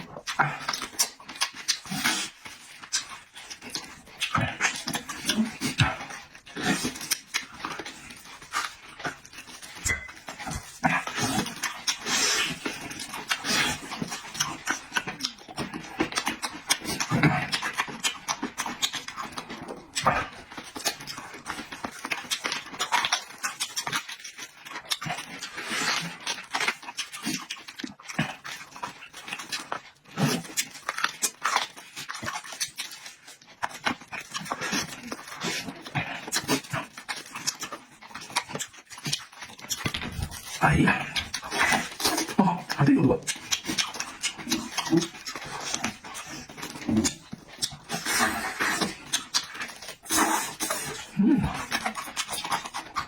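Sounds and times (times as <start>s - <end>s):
wet chewing and smacking: 0.0s - 53.0s.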